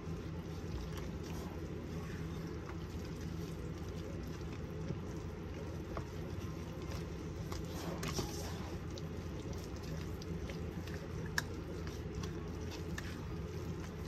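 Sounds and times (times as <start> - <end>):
low background hum: 0.0 - 14.0
spatula stirring dough in bowl: 0.0 - 14.0.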